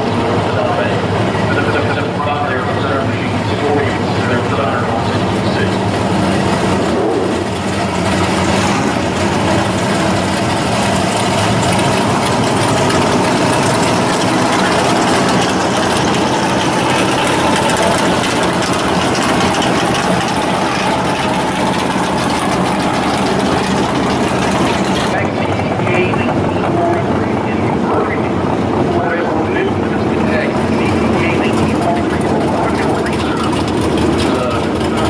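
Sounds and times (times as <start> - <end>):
race car engines idling: 0.0 - 35.0.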